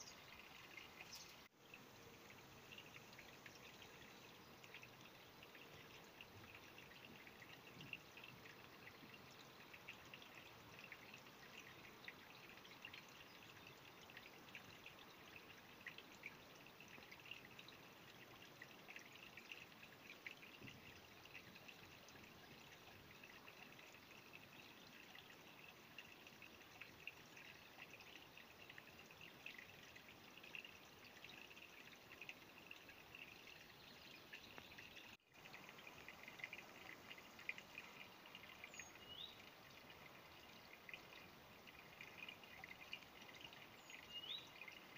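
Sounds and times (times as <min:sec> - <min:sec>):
creek trickling and babbling: 0:00.0 - 0:44.9
water drips and plops: 0:00.0 - 0:44.9.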